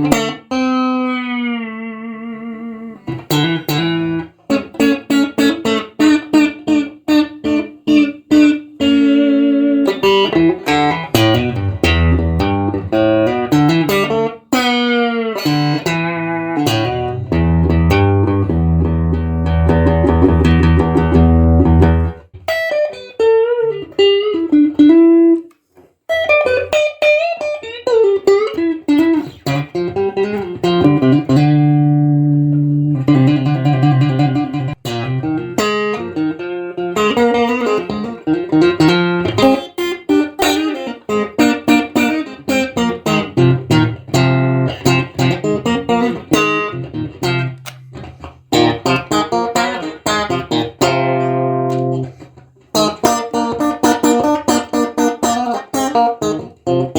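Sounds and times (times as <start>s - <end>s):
clean electric guitar melody: 0.0s - 56.9s.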